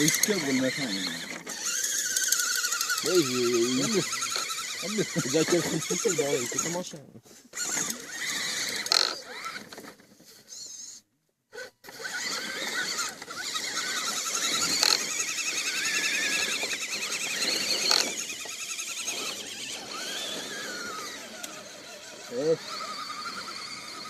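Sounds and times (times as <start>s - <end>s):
electric motor whining: 0.0s - 6.9s, 7.5s - 24.0s.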